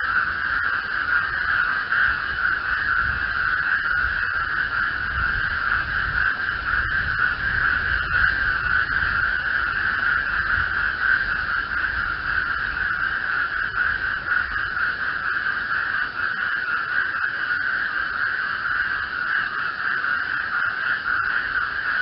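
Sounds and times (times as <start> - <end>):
frog chorus trilling: 0.0 - 22.0.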